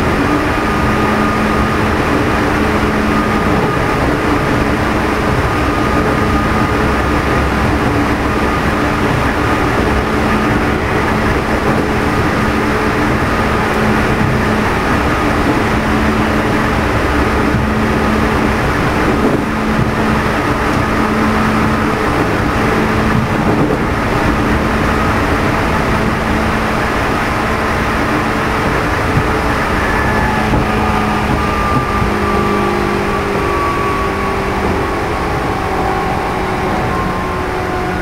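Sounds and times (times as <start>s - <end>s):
traction motor hum and whine: 0.0s - 38.0s
train wheels rumbling on rail: 0.0s - 38.0s.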